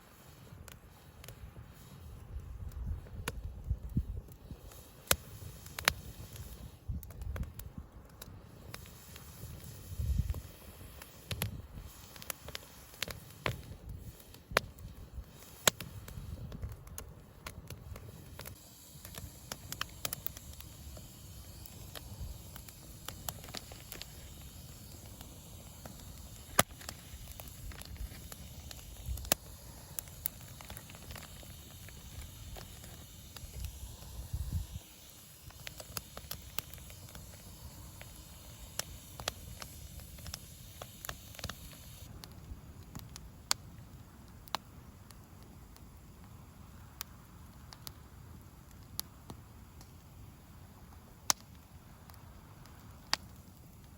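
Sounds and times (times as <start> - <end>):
bonfire crackling and popping: 0.0 - 53.9.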